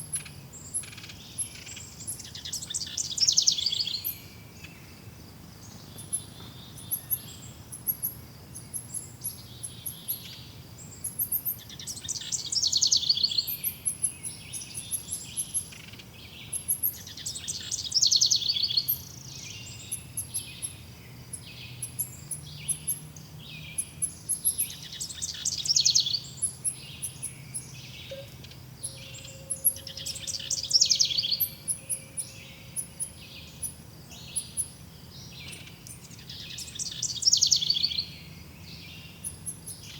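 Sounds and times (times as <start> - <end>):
bird trilling song: 0.0 - 5.0, 5.6 - 39.9
birds chirping: 0.0 - 39.9.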